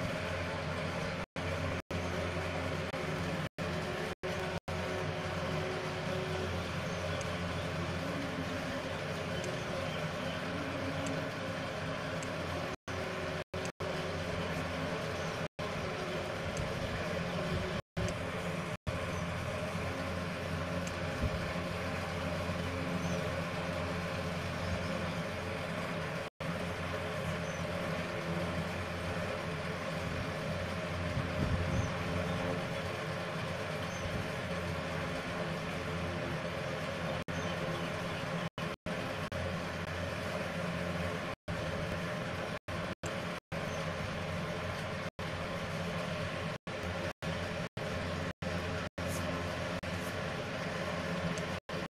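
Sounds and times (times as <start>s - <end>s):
background hum and rumble: 0.0s - 51.9s.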